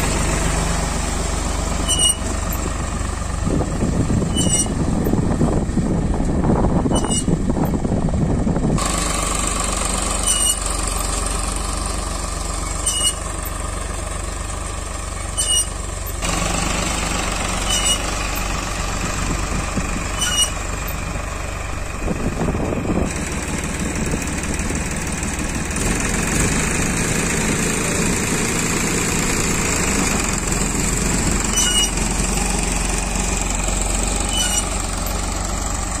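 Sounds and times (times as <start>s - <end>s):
tractor engine running: 0.0s - 36.0s.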